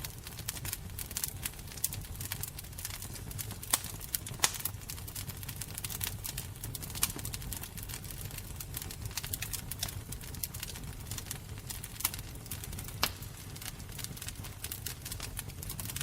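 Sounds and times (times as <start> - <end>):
crackles and pops of burning wood: 0.0 - 16.0
fire roaring: 0.0 - 16.0.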